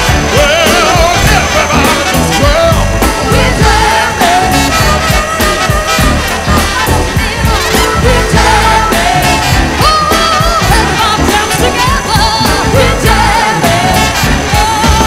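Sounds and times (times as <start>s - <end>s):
pop song with singing: 0.0s - 15.0s
steady drum beat: 0.0s - 15.0s.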